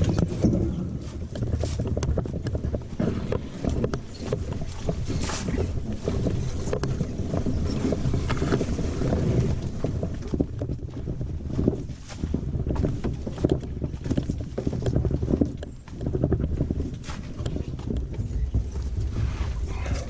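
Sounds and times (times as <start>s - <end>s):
water splashing against canoe: 0.0s - 20.0s
wind buffeting microphone: 0.0s - 20.0s.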